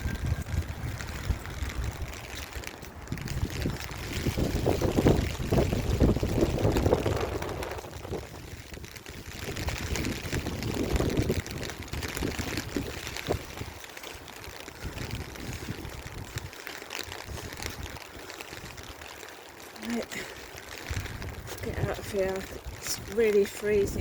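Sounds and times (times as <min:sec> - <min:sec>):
gusty wind buffeting microphone: 0:00.0 - 0:19.0, 0:20.1 - 0:24.0.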